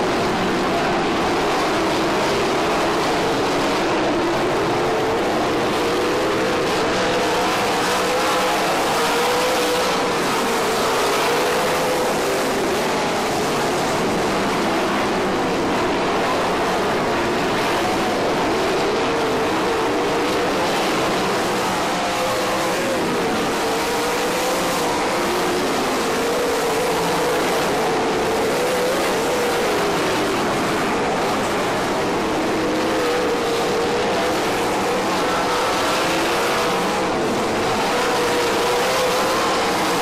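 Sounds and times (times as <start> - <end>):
race car engines droning: 0.0 - 40.0.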